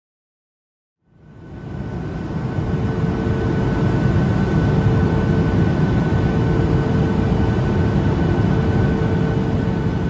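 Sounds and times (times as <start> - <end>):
airliner cabin rumble: 1.2 - 10.0
jet engines whining: 1.2 - 10.0.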